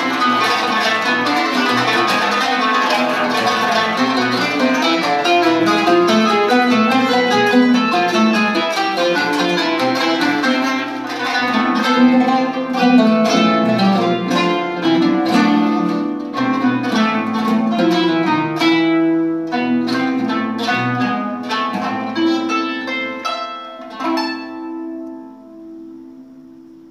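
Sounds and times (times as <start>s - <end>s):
kanun plucked notes: 0.0s - 26.9s
oud plucked notes: 0.0s - 26.9s.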